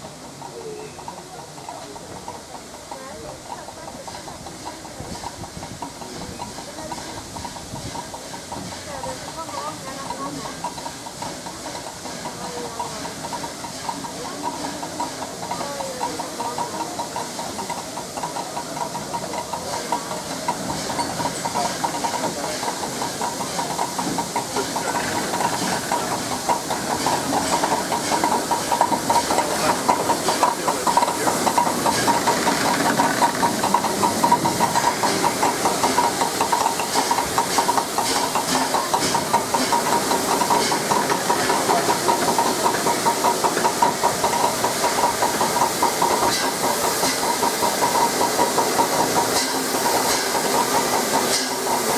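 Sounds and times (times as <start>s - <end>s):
steam hissing: 0.0s - 51.9s
steam locomotive running: 0.0s - 51.9s.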